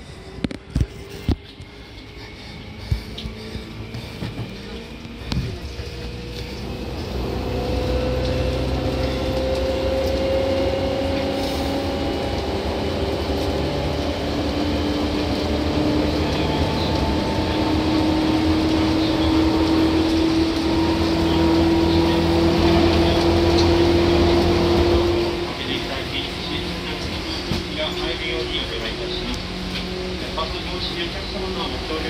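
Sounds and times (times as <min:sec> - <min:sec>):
electric train motors whining: 0:00.0 - 0:32.0.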